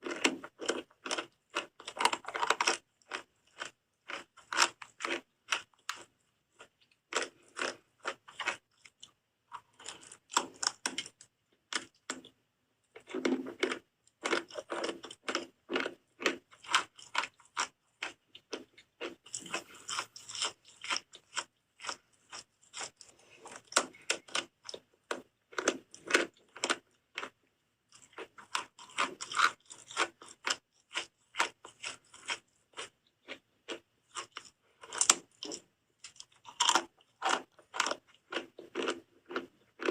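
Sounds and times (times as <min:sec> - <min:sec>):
biting and chewing soap: 0:00.0 - 0:39.9.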